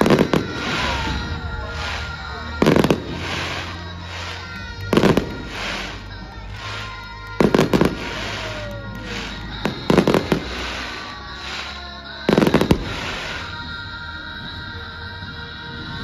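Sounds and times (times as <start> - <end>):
fireworks bangs: 0.0 - 13.9
background music: 0.0 - 16.0.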